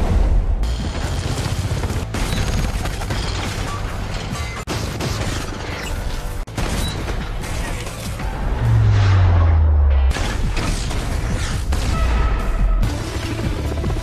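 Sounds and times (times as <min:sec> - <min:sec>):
film action music: 0:00.0 - 0:14.0.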